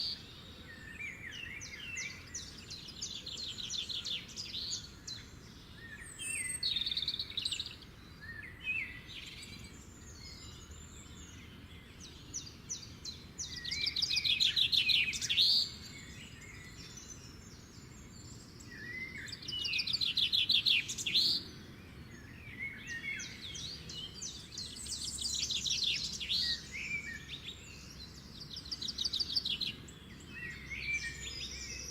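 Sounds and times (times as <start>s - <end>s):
faint background hiss: 0.0s - 31.9s
songbirds singing and chirping: 0.0s - 31.9s.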